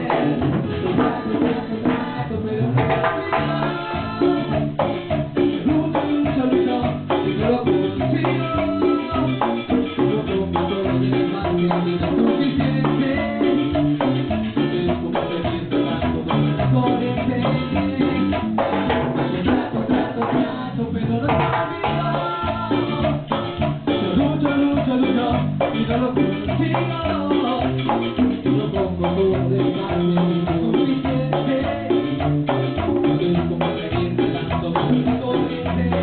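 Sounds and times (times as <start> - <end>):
band playing latin dance music: 0.0 - 36.0
drums beat: 0.0 - 36.0
walking bass line: 0.0 - 36.0.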